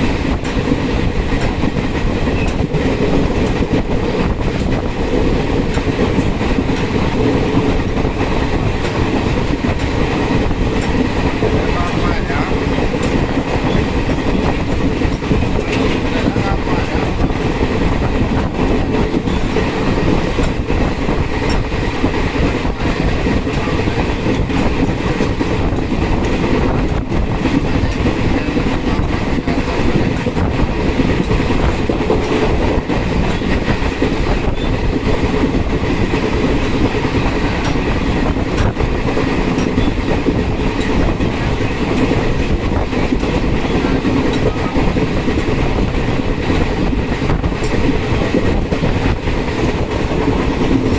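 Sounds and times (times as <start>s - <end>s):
train wheels rumbling on rails: 0.0s - 50.9s
wheels clicking over rail joints: 0.3s - 50.9s.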